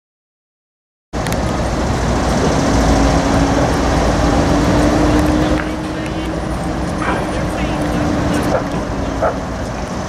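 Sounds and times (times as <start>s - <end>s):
urban traffic rumble: 1.1s - 10.0s.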